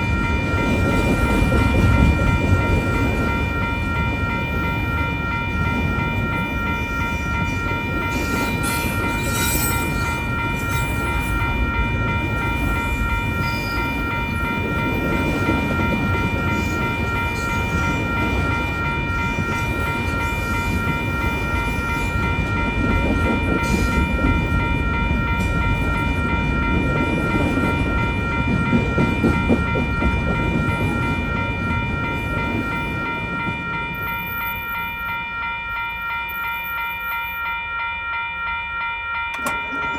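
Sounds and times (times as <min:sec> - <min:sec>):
freight train rumbling past: 0:00.0 - 0:36.9
crossing warning bell ringing: 0:00.0 - 0:39.9.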